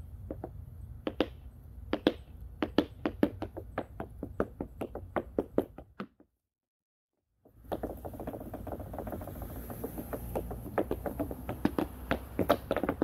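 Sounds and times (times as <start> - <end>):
tap shoes clicking on wooden board: 0.2 - 6.4, 7.4 - 13.0.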